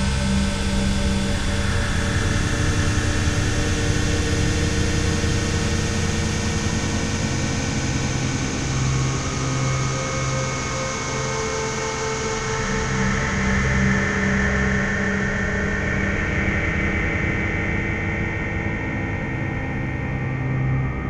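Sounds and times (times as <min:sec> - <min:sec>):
dark ambient electronic drone: 0:00.0 - 0:21.0.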